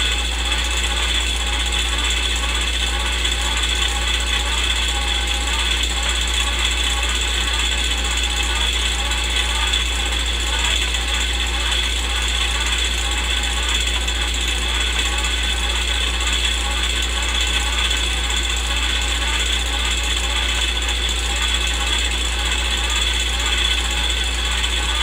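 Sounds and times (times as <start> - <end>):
mechanical whir with hum: 0.0 - 25.0.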